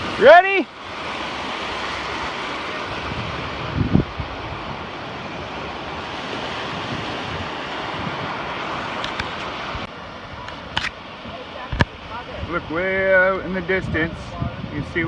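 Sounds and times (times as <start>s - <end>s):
lake waves breaking on shore: 0.0s - 15.0s
wind on microphone: 0.0s - 15.0s.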